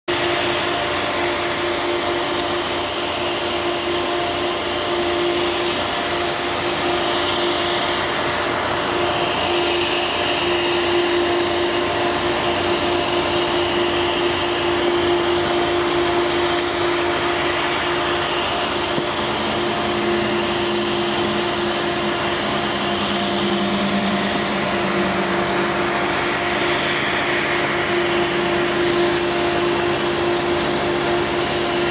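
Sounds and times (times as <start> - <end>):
machine hiss: 0.1 - 31.9
constant low hum: 0.2 - 31.9
second lower hum: 3.4 - 31.9.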